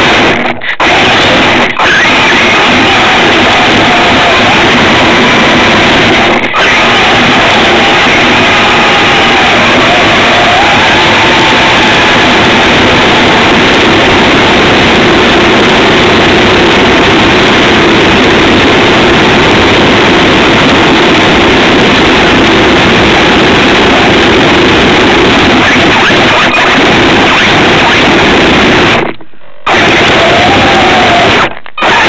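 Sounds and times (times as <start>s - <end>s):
loud distorted noise: 0.0s - 32.0s.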